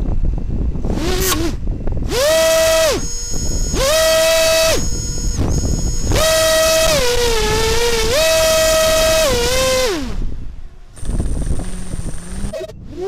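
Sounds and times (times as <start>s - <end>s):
drone motors whining: 0.9s - 10.3s, 11.0s - 13.0s.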